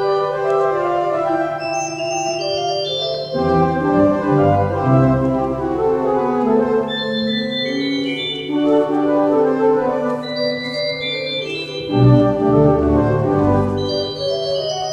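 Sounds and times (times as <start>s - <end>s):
organ playing chords: 0.0s - 14.9s.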